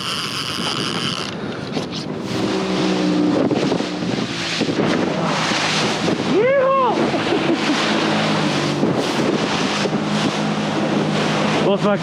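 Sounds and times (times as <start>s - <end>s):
low motor hum: 0.0s - 12.0s
wind buffeting microphone: 0.0s - 12.0s.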